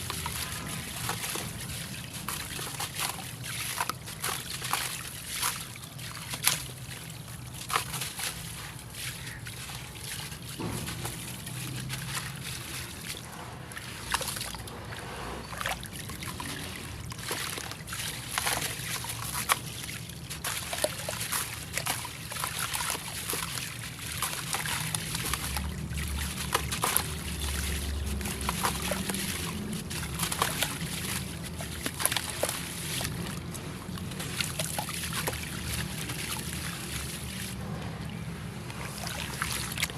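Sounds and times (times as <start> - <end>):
concrete crackling in water: 0.0 - 37.7, 38.6 - 39.9
water sloshing and trickling: 0.0 - 39.9.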